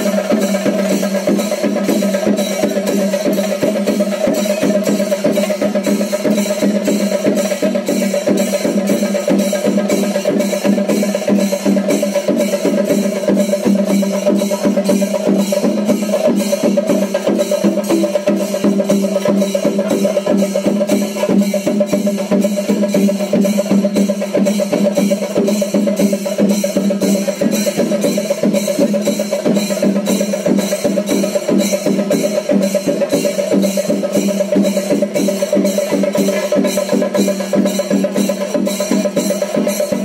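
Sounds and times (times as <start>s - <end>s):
drum ensemble playing: 0.0s - 40.0s.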